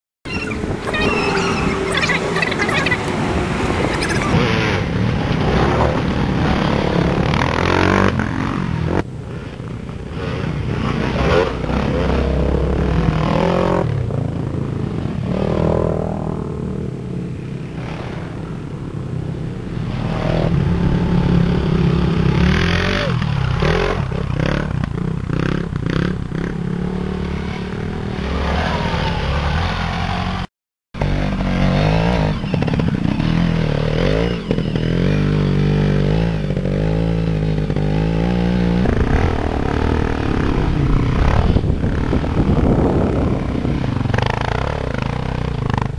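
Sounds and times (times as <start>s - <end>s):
dirt bike engines revving: 0.3s - 45.9s.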